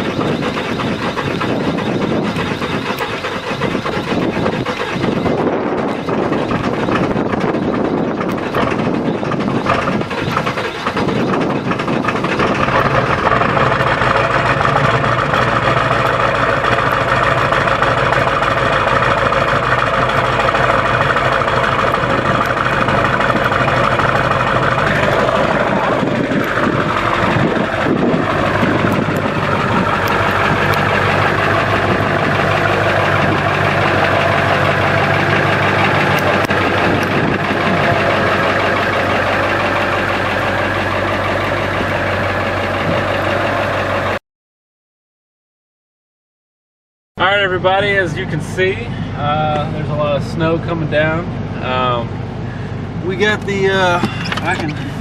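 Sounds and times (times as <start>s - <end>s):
diesel engine idling: 0.0s - 44.2s, 47.2s - 55.0s.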